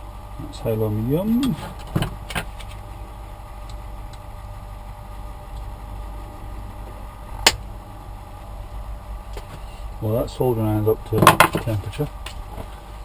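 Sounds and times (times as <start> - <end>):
electric fan humming: 0.0 - 13.0.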